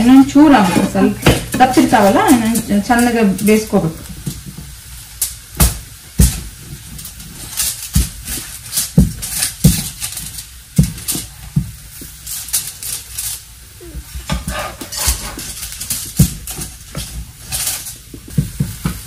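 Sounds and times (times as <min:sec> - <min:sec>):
dough patted on foil: 0:00.0 - 0:19.0
metal spatula on griddle: 0:00.0 - 0:19.0.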